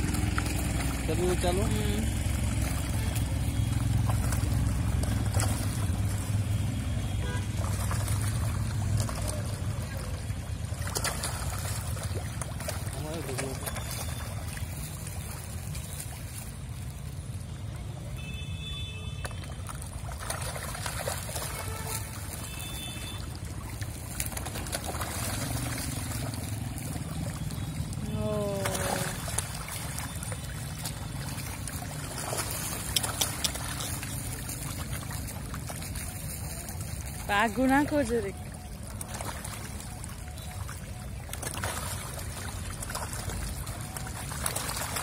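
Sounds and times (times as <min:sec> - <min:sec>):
fish splashing in water: 0:00.0 - 0:45.0.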